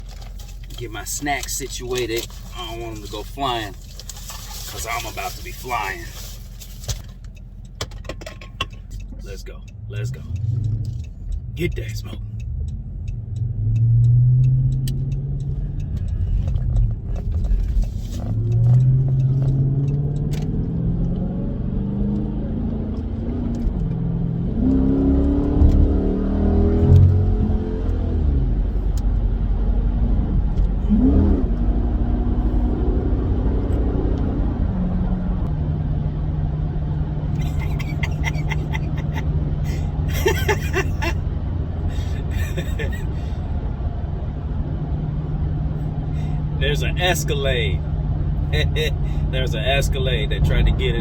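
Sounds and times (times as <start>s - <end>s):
car engine accelerating through gears: 8.8s - 51.0s.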